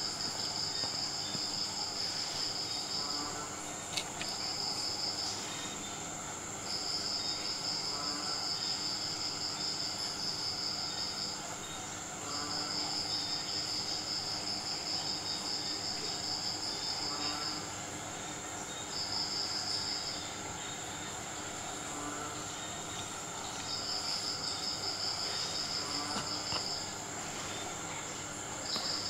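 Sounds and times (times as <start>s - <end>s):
crickets trilling: 0.0s - 29.0s.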